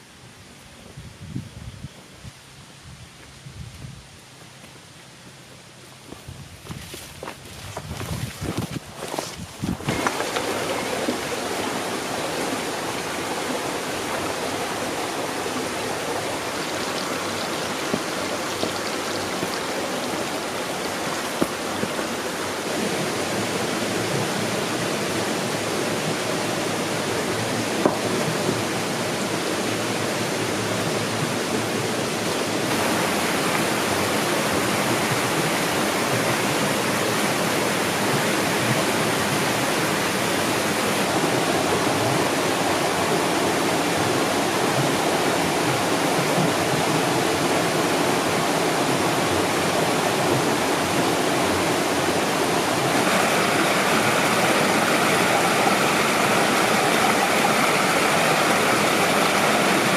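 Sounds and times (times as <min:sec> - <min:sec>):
waterfall rushing: 0:08.5 - 0:59.9.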